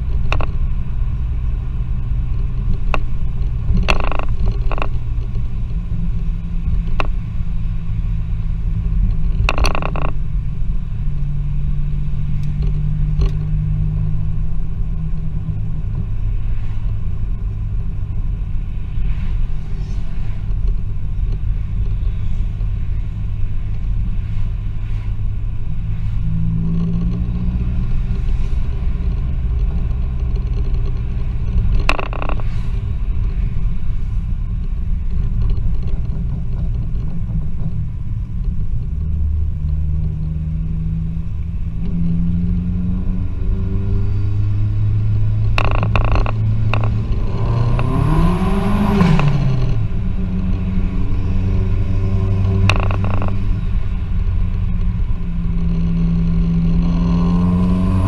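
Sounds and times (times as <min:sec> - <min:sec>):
car engine rumble from cabin: 0:00.0 - 0:58.0.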